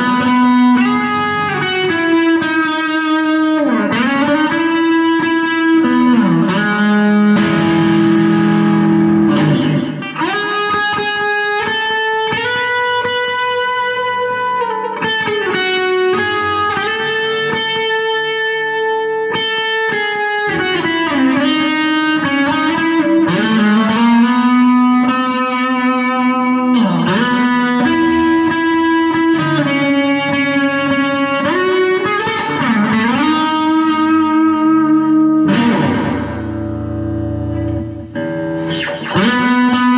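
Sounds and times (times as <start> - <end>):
electric guitar melody: 0.0 - 39.9.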